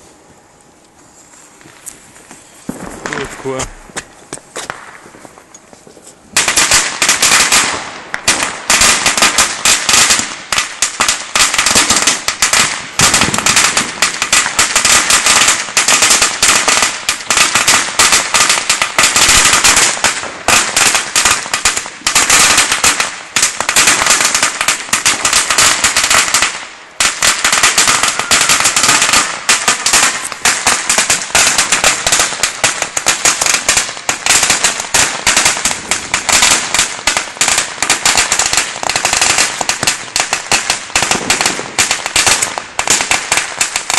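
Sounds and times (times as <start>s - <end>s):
firecrackers crackling: 0.0s - 43.9s.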